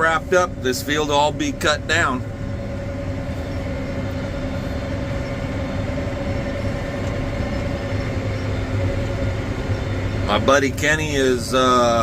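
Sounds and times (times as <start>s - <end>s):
swather machinery drone with whine: 0.0s - 12.0s.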